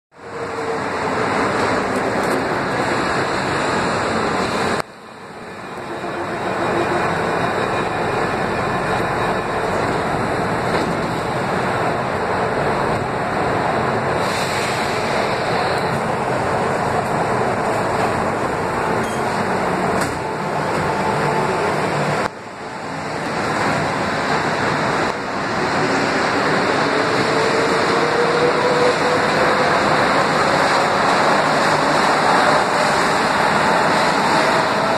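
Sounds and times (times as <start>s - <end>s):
standing train rumble: 0.1s - 34.9s.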